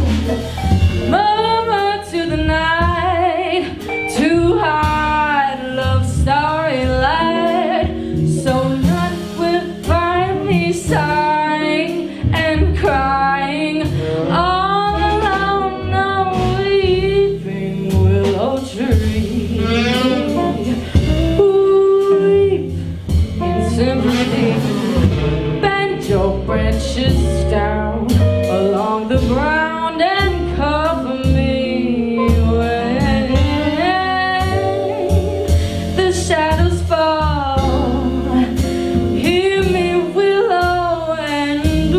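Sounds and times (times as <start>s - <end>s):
jazz band accompaniment: 0.0s - 41.9s
woman singing: 1.1s - 41.9s.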